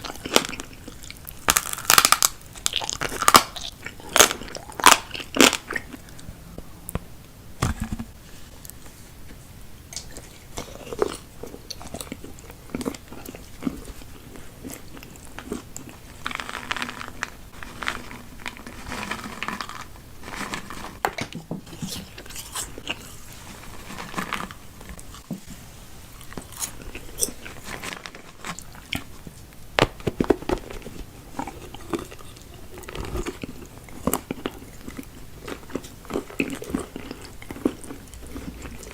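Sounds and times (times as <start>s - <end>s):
person chewing crunchy food: 0.0s - 7.0s, 9.8s - 25.3s, 26.1s - 38.9s.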